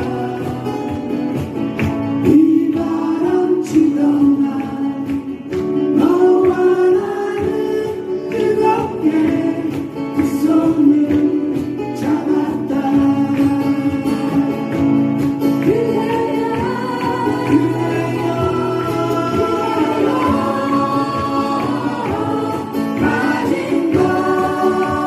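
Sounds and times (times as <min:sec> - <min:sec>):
person singing: 0:00.0 - 0:01.3, 0:02.2 - 0:14.9, 0:15.5 - 0:25.0
acoustic guitar: 0:00.0 - 0:25.0.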